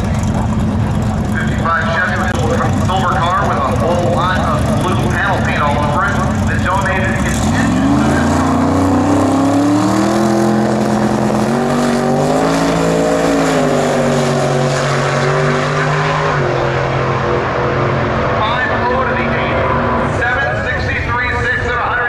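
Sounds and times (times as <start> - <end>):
drag car engine accelerating: 0.0 - 22.0.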